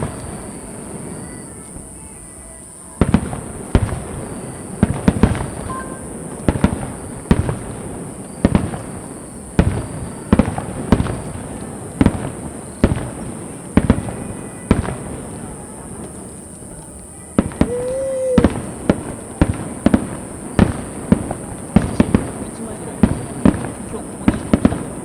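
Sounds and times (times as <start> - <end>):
firework shells booming: 3.0 - 16.8, 17.4 - 25.0.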